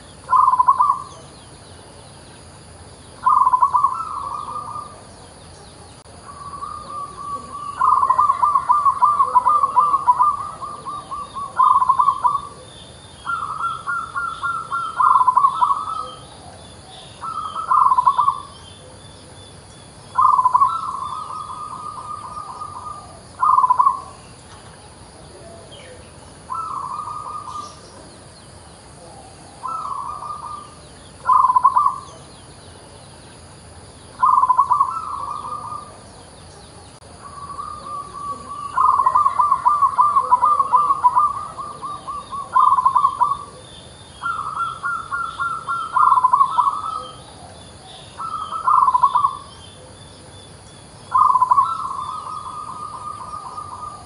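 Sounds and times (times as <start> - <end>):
dove cooing: 0.0 - 33.1, 34.0 - 54.0.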